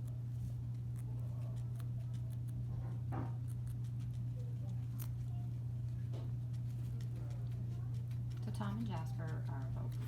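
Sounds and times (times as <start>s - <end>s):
guinea pigs chewing: 0.0s - 10.0s.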